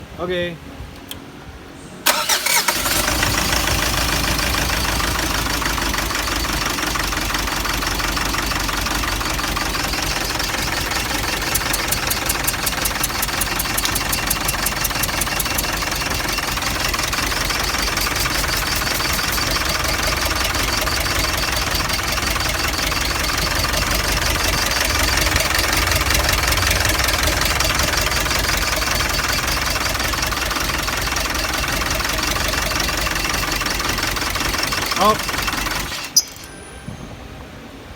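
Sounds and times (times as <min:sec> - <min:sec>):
diesel engine idling roughly: 0:02.1 - 0:36.5.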